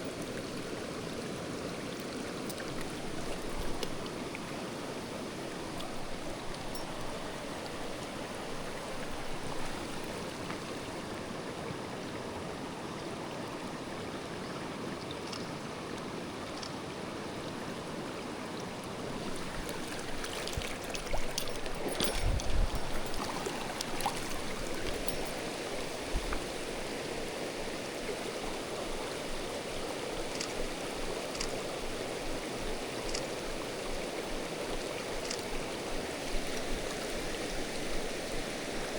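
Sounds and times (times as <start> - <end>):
water rushing over rocks: 0.0 - 12.7, 13.5 - 38.9.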